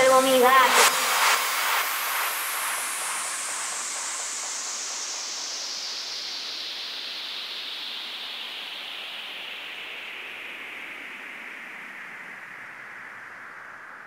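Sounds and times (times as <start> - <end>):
synthesized white-noise sweep: 0.0 - 14.0.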